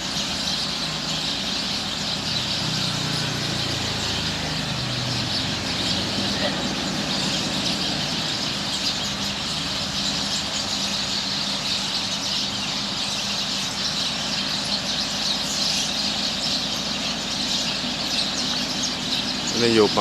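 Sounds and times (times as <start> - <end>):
flock of birds chattering: 0.0 - 20.0
steady low hum: 0.0 - 20.0.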